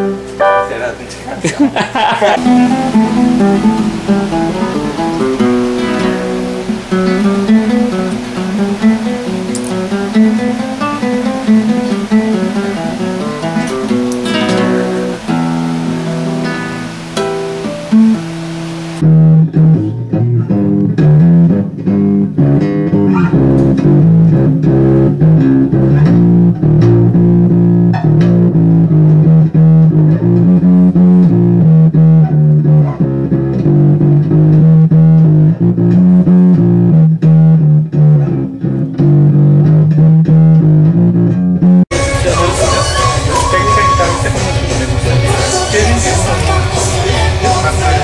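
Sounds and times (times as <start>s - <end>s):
plucked bass guitar: 0.0s - 48.0s
strummed acoustic guitar: 0.0s - 48.0s.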